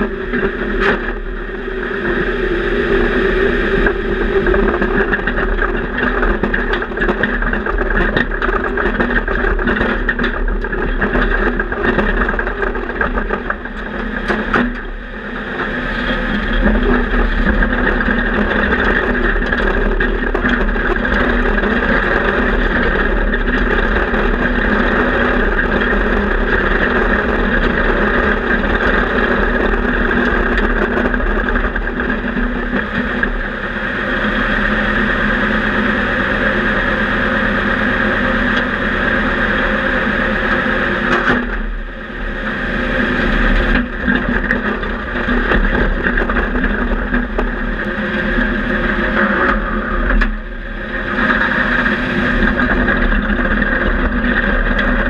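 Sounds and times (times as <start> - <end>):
tank engine running loudly: 0.0 - 55.0.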